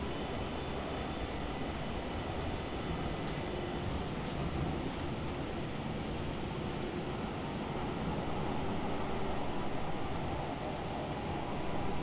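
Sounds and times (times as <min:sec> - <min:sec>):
subway train running: 0:00.0 - 0:12.0.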